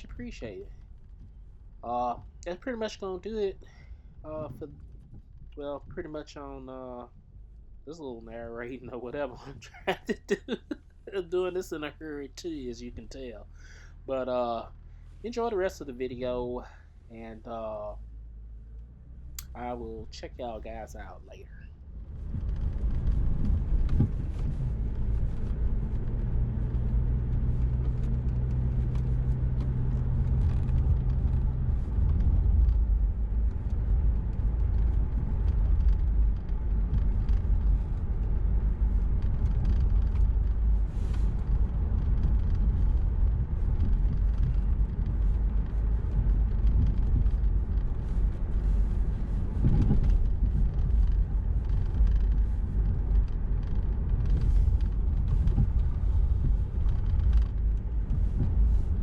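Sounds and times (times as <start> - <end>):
car engine and road noise: 0.0 - 59.0
low steady hum: 0.0 - 59.0.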